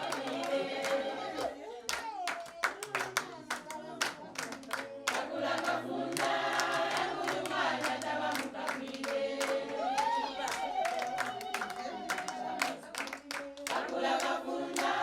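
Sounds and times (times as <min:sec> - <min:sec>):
group singing in chorus: 0:00.0 - 0:02.0, 0:02.6 - 0:15.0
hand claps: 0:00.0 - 0:15.0.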